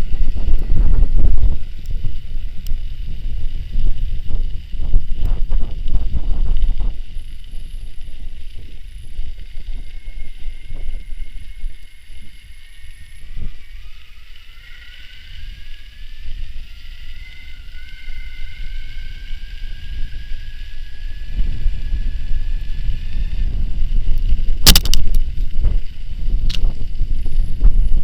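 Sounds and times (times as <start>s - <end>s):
wind buffeting microphone: 0.0s - 14.6s, 15.2s - 28.0s
electric bike motor whining: 0.0s - 28.0s.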